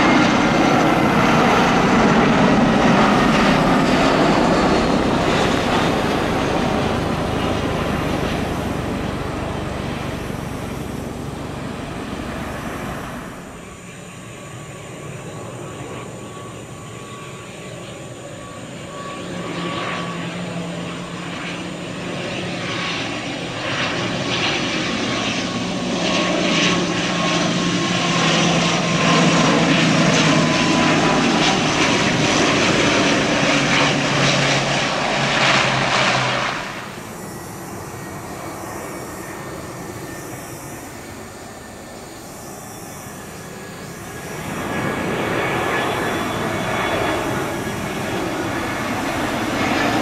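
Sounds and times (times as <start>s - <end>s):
jet on takeoff roll: 0.0s - 50.0s
turboprop airliner landing: 0.0s - 50.0s.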